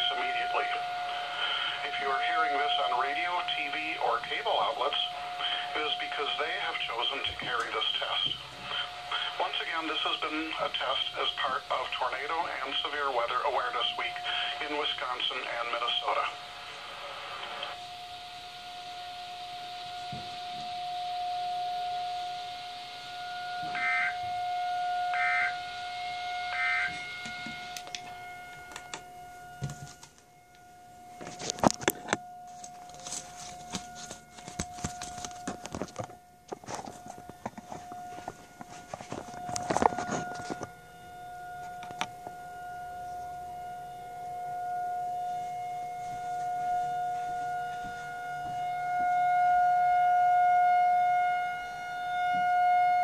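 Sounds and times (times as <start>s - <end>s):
tornado siren steady tone: 0.0s - 53.0s.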